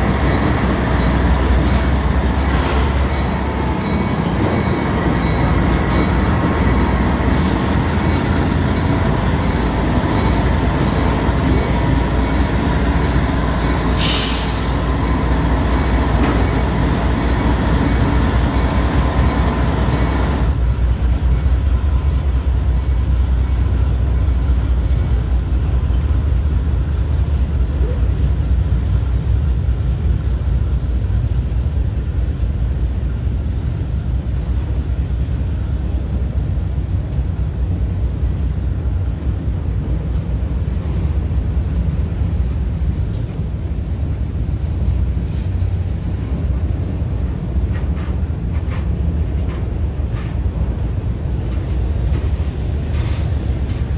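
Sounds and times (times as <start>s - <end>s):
train cars rumbling: 0.0s - 53.9s.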